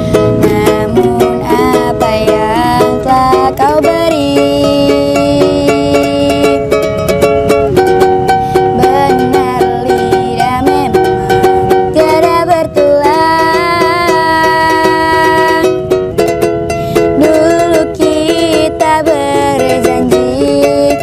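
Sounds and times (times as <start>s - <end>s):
plucked string strumming: 0.0s - 21.0s.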